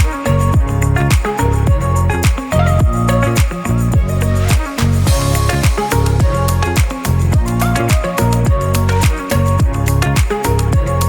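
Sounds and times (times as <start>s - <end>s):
deep kick drums: 0.0s - 4.2s, 5.1s - 11.0s
melodic line: 0.0s - 11.0s.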